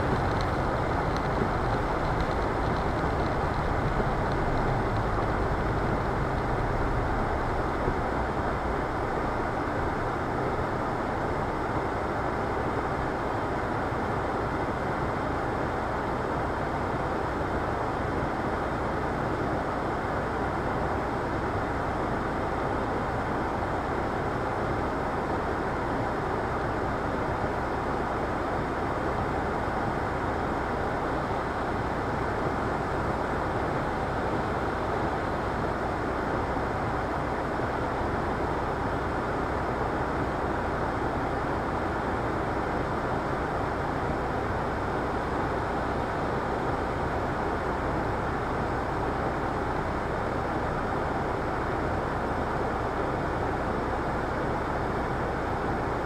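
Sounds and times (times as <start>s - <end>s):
in-cabin vehicle noise: 0.0s - 56.0s.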